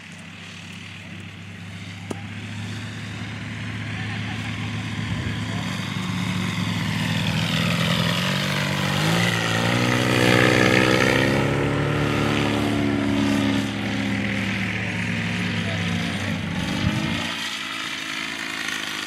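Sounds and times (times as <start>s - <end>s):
model plane engine passing: 0.0s - 19.0s.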